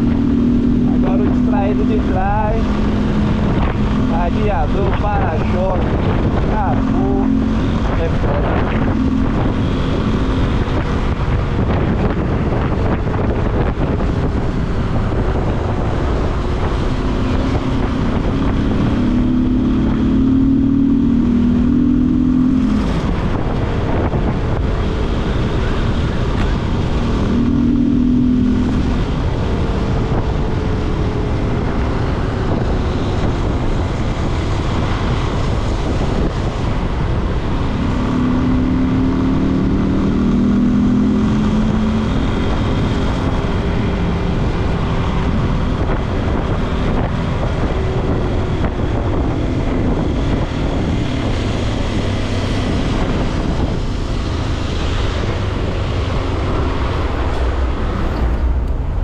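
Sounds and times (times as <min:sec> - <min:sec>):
motorcycle engine running: 0:00.0 - 0:58.8
wind rushing over microphone: 0:00.0 - 0:59.0.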